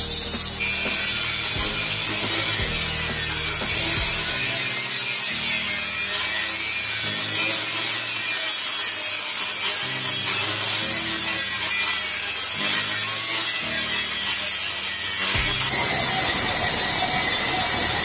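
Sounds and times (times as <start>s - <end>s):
angle grinder cutting steel: 0.0s - 18.0s.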